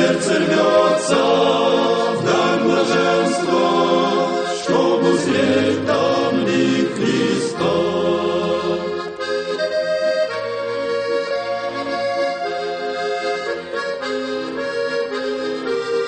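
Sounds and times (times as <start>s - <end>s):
accordion playing a hymn: 0.0s - 16.0s.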